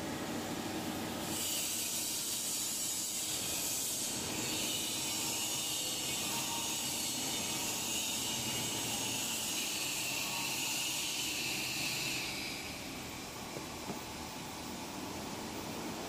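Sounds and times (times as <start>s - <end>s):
compressor high hiss: 0.0s - 16.0s.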